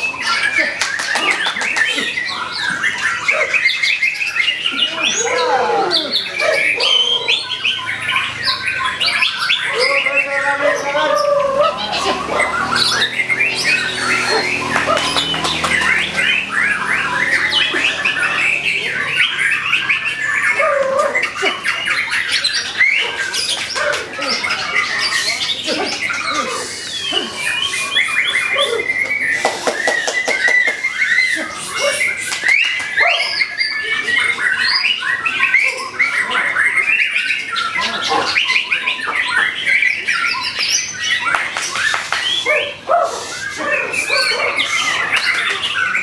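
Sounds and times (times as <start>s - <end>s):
bird song whistles and chattering: 0.0s - 46.0s.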